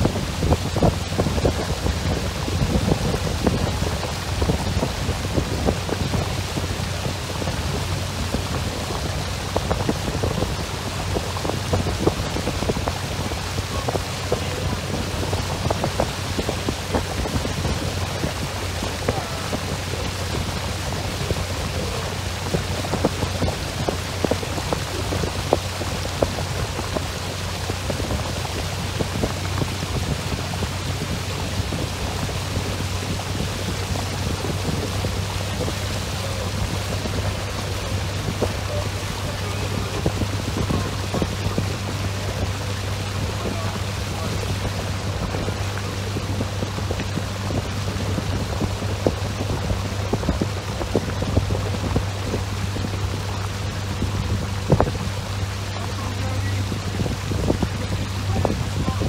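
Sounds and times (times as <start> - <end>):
boat motor humming: 0.0 - 59.0
wind on microphone: 0.0 - 59.0.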